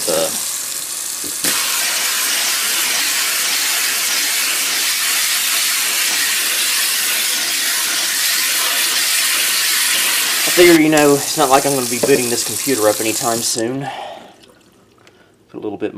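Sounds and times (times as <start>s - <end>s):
faucet water pouring onto plastic: 0.1s - 13.7s.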